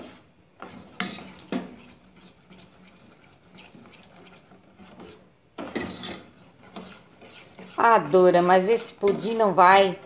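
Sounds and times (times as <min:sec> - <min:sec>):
spoon scraping pot: 0:00.0 - 0:10.0.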